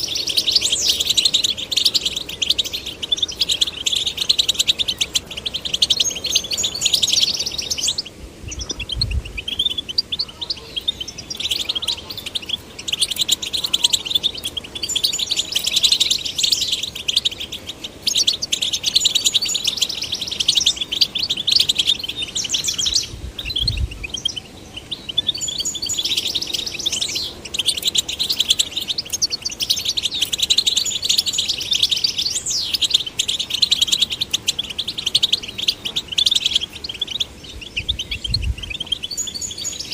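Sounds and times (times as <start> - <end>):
goldfinch tinkling twitter: 0.0 - 39.9.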